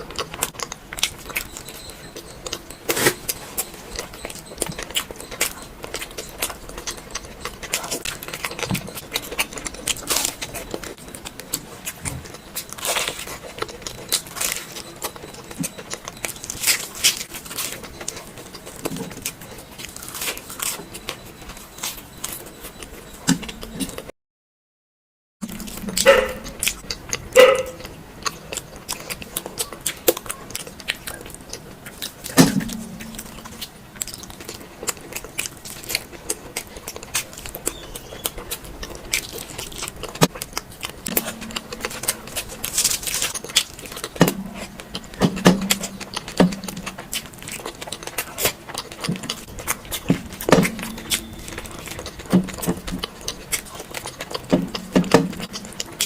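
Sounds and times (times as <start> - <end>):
chewing with wet mouth clicks: 0.0 - 24.1, 25.4 - 56.0.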